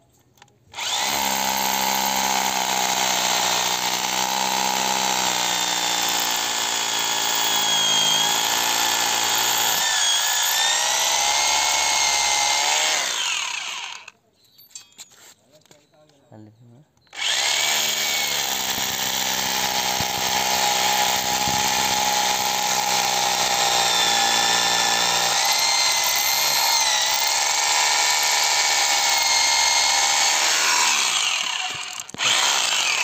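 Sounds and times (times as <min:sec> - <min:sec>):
hammer drill boring into concrete: 0:00.8 - 0:14.2, 0:17.1 - 0:33.0.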